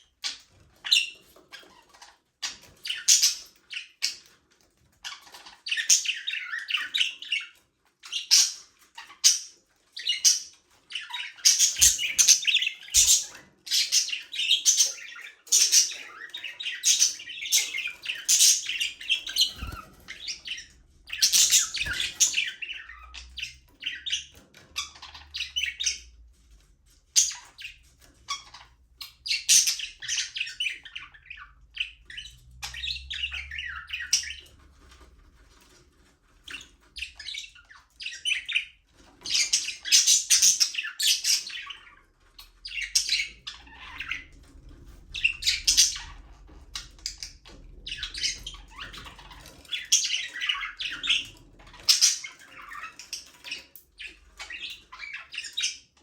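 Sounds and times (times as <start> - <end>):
budgerigars chirping and squawking: 0.0 - 56.0.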